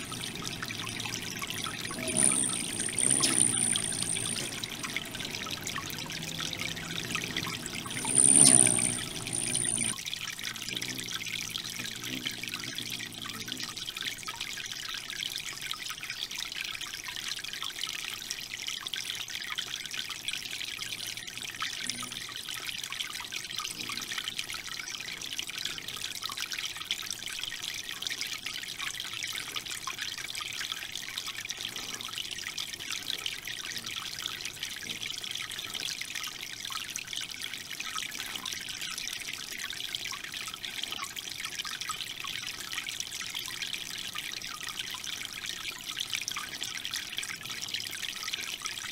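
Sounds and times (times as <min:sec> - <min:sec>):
fountain water trickling: 0:00.0 - 0:48.9.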